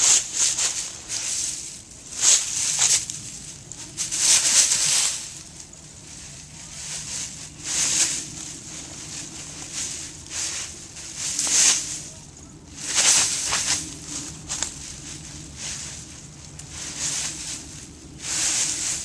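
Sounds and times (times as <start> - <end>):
dry leaves rustling and crunching: 0.0 - 19.0.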